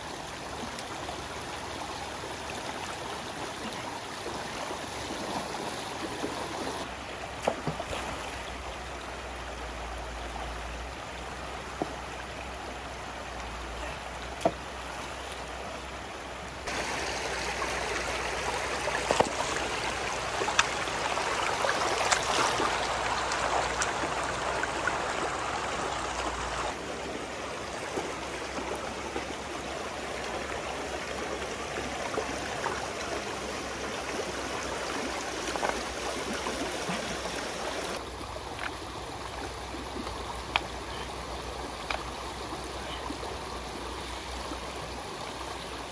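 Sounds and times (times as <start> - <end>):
stream water rushing over rocks: 0.0 - 45.9.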